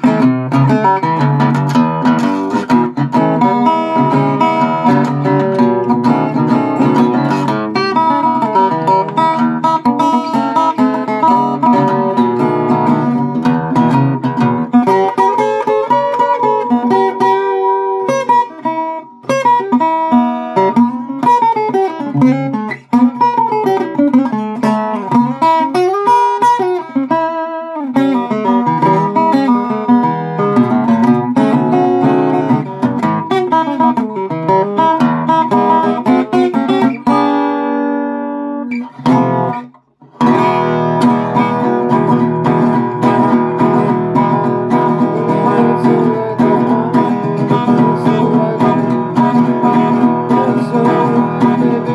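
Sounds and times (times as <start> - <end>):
acoustic guitar playing: 0.0 - 51.9.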